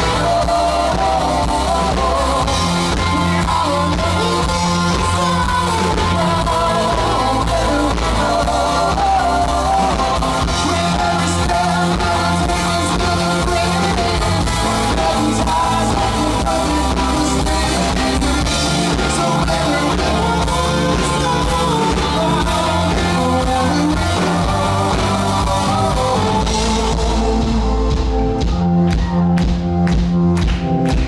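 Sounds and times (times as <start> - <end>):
man singing lead vocal: 0.0 - 28.7
live rock band playing: 0.0 - 31.0.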